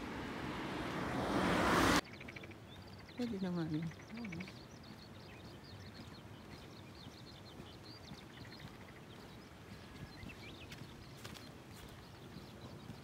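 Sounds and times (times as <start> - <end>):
small birds chirping: 2.0 - 13.0.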